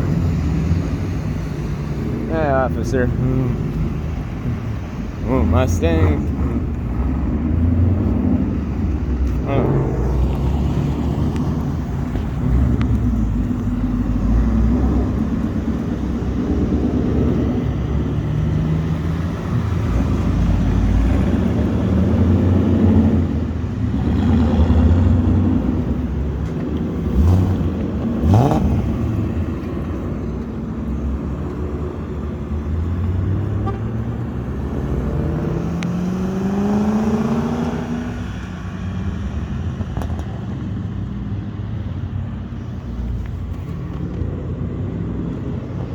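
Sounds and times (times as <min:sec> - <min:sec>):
engine revving: 0:00.0 - 0:30.5, 0:31.3 - 0:40.3
engine accelerating: 0:00.0 - 0:38.5
vehicles driving past: 0:00.0 - 0:45.9.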